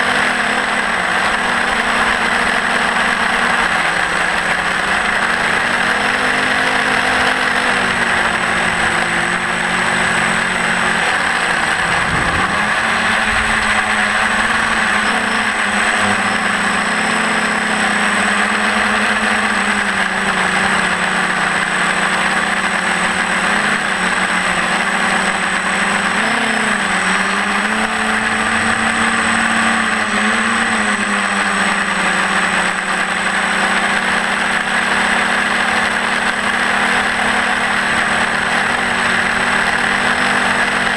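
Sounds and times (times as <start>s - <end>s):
constant high whine: 0.0s - 40.9s
quadcopter motors humming: 0.0s - 40.9s.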